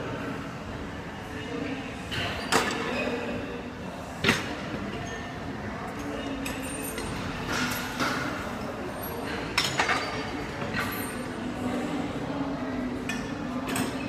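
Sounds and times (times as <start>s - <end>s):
busy gym background noise: 0.0s - 14.0s.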